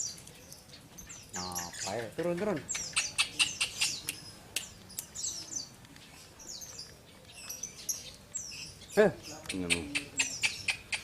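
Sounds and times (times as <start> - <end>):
lovebird chirping: 0.0 - 11.0.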